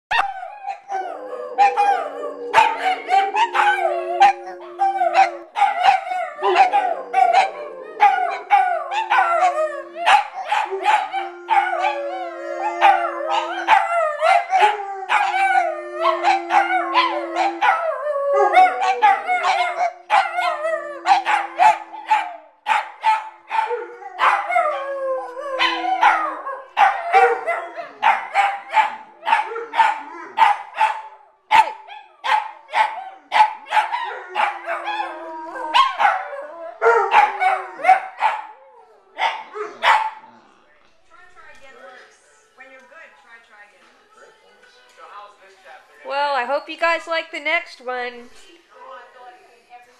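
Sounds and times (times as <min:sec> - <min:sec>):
dogs yipping and barking: 0:00.1 - 0:40.3
dogs howling: 0:00.1 - 0:40.5.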